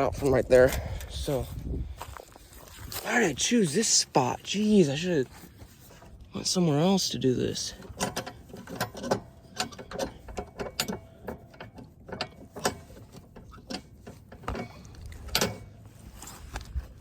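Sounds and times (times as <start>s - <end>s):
metal parts and tools clanking: 2.5s - 17.0s.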